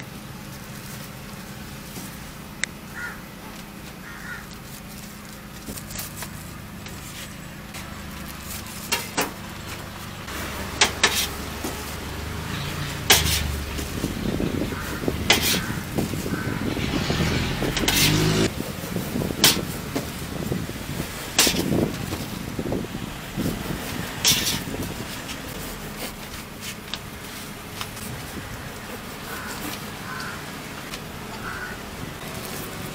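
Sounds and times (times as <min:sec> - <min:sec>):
vehicle engine rumble: 0:00.0 - 0:32.9.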